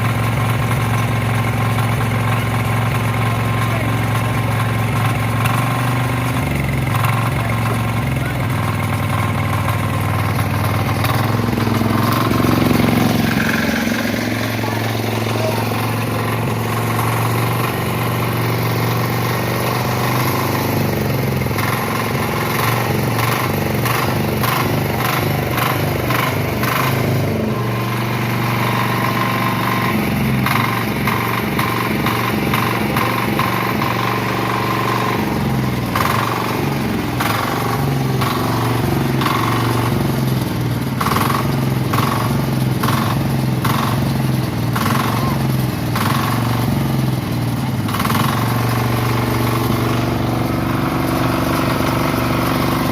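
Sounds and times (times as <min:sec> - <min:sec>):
small engine running: 0:00.0 - 0:52.9.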